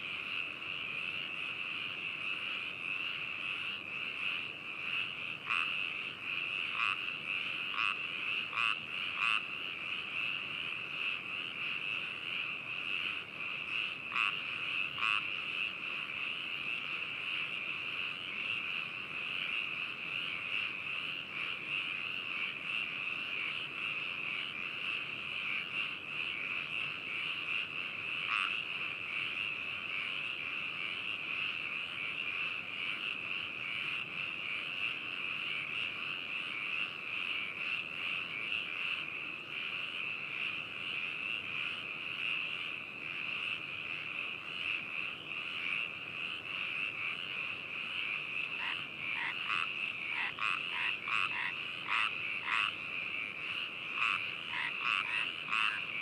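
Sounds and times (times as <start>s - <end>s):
chorus of frogs calling: 0.0s - 56.0s
single nearby frog calls: 0.0s - 56.0s.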